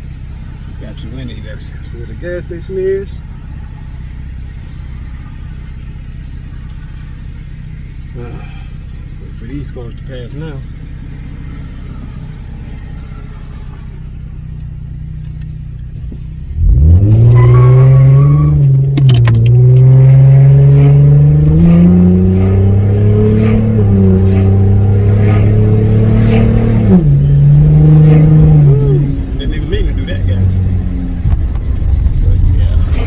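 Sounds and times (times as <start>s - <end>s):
car engine idling and accelerating: 0.0s - 33.0s.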